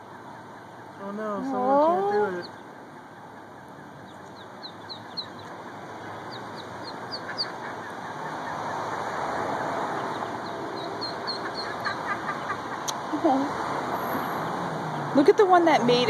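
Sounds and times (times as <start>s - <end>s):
ducklings peeping: 0.0s - 13.0s.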